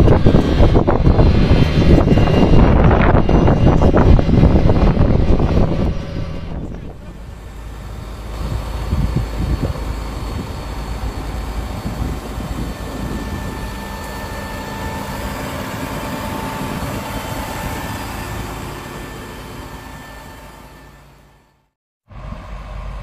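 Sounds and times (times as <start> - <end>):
tractor diesel engine straining: 0.0 - 23.0.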